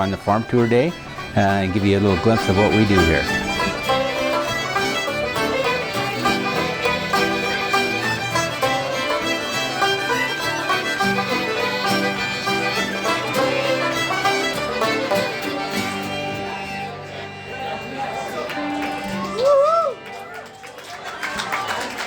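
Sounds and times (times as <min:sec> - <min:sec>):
plucked strings: 0:00.0 - 0:20.3
fiddle playing quick notes: 0:00.0 - 0:20.8.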